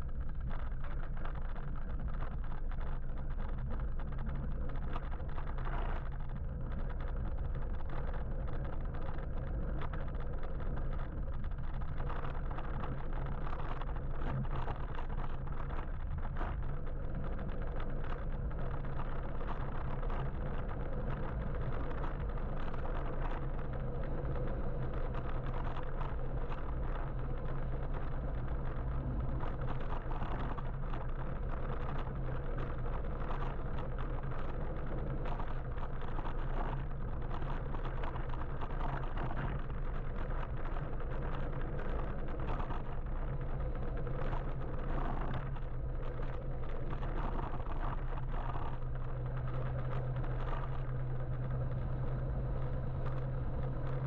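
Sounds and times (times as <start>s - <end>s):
small ticks and rattles: 0.0s - 54.0s
traffic: 0.0s - 54.0s
wind and road noise: 0.0s - 54.0s.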